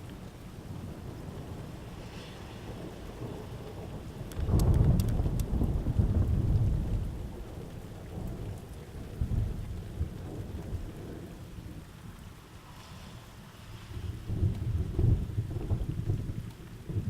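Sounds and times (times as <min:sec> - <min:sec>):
thunder rumbling: 0:00.0 - 0:11.8, 0:14.0 - 0:17.0
steady rain: 0:00.0 - 0:17.0.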